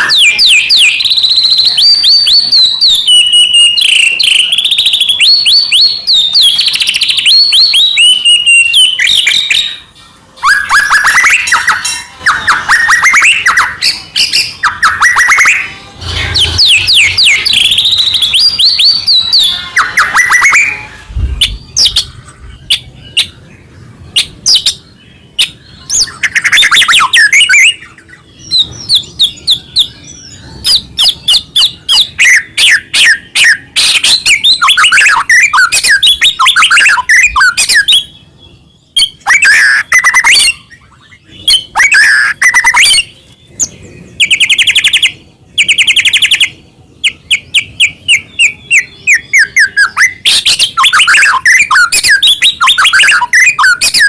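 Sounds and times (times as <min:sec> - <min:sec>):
songbird singing whistles and trills: 0:00.0 - 0:54.0.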